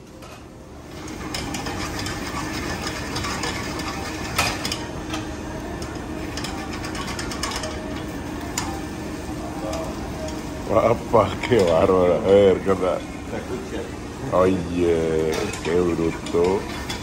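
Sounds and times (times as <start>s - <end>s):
food sizzling in frying pans: 0.0s - 17.0s.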